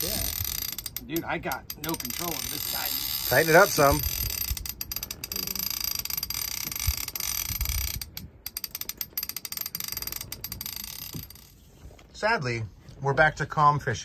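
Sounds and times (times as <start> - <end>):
fishing reel ratcheting: 0.0 - 11.6.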